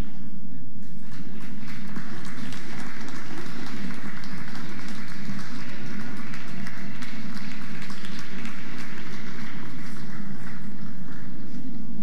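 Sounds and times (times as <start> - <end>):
audience applause: 1.0 - 11.8.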